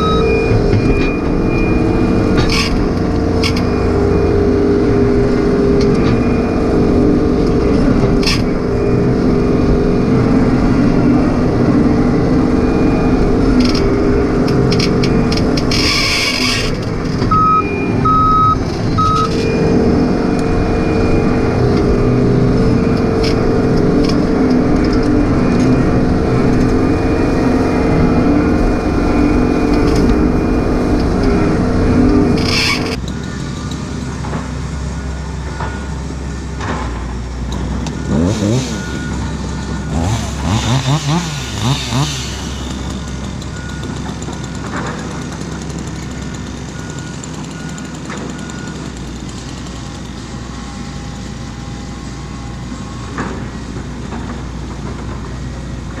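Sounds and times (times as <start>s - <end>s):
travel alarm beeping: 0.0s - 33.7s, 37.8s - 49.3s
rising and falling squeals: 0.0s - 53.7s
diesel excavator engine running: 0.0s - 56.0s.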